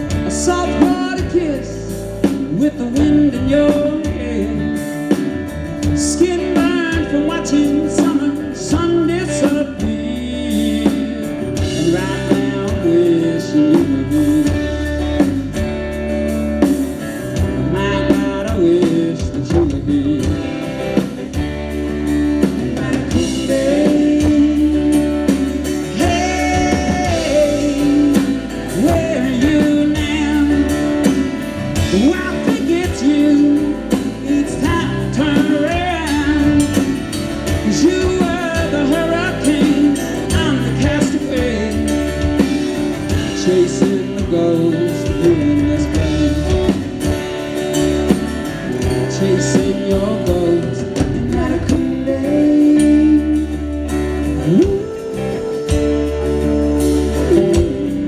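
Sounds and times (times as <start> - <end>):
lead vocal singing: 0.0 - 15.7, 17.0 - 58.0
rock band playing: 0.0 - 58.0.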